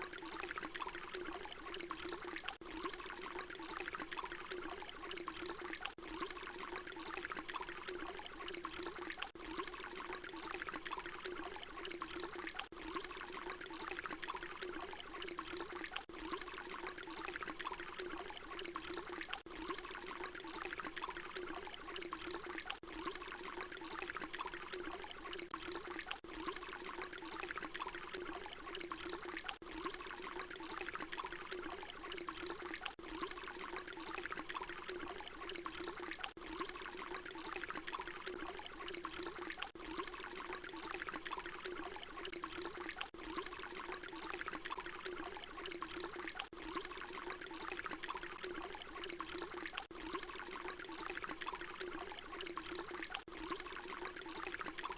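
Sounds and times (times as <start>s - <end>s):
water pouring: 0.0s - 54.9s.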